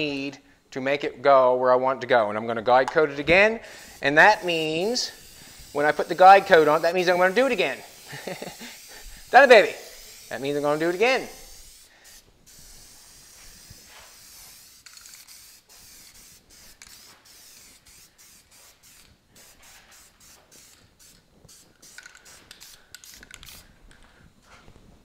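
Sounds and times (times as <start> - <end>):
aerosol can spraying: 3.6 - 23.8.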